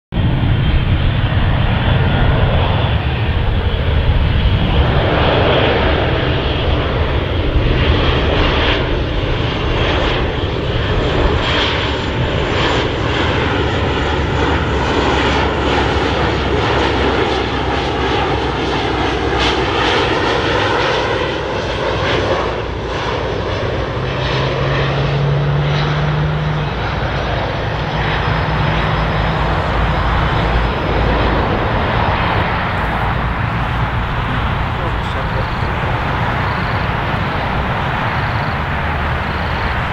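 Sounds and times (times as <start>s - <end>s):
jet engines rumble and whine: 0.1s - 39.9s
steady low hum: 0.3s - 39.9s.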